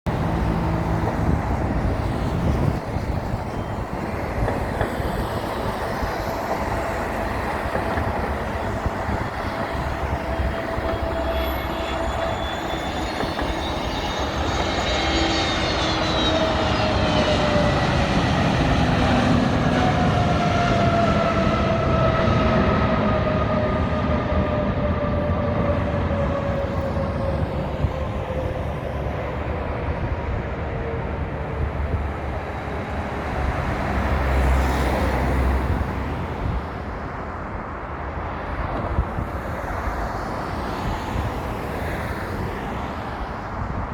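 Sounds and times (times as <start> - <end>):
jet airliner flying past: 0.1 - 43.9.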